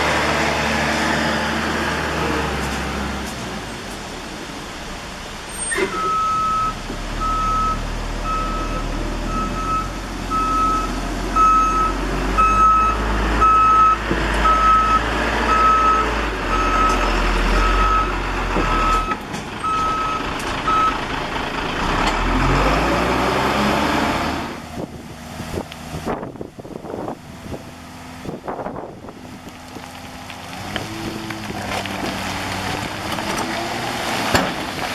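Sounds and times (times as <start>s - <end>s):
diesel engine running: 6.1s - 34.9s.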